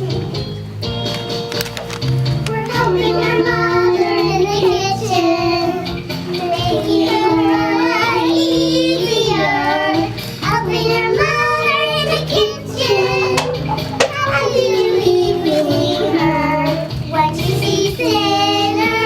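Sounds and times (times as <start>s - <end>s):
instrumental accompaniment with bass: 0.0s - 19.0s
child singing: 2.5s - 19.0s.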